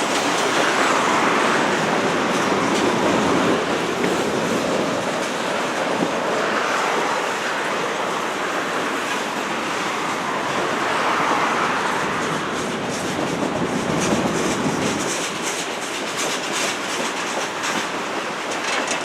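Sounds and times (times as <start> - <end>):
freight train rumbling past: 0.0 - 19.0
train wheels clicking over rail joints: 0.0 - 19.0.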